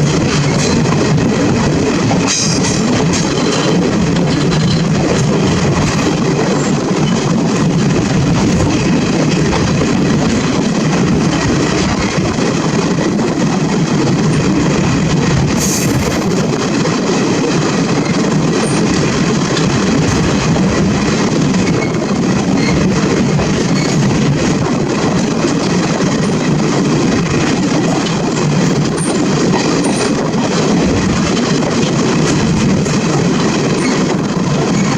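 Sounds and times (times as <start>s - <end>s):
train wheels on rails: 0.0s - 34.9s.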